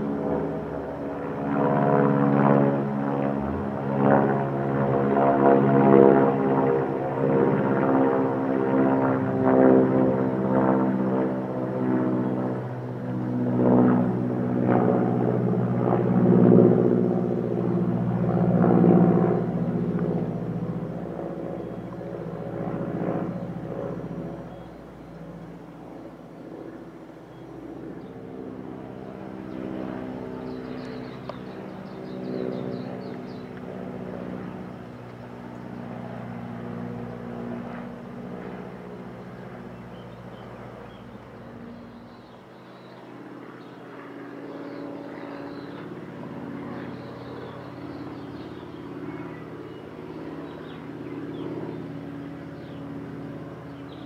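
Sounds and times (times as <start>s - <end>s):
propeller aircraft engine drone: 0.0s - 54.0s.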